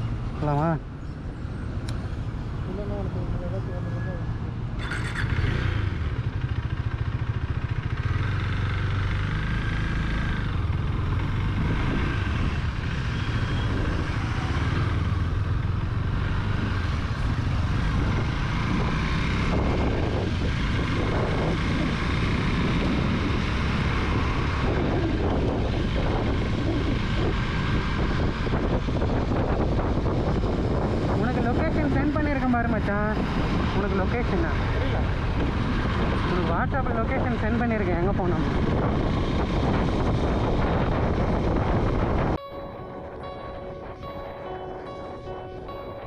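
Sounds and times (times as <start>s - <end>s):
motorcycle engine accelerating: 4.6s - 46.0s.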